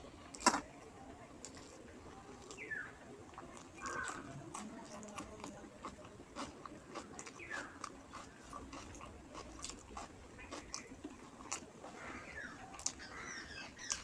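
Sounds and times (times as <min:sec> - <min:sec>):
person chewing food: 0:01.4 - 0:14.0.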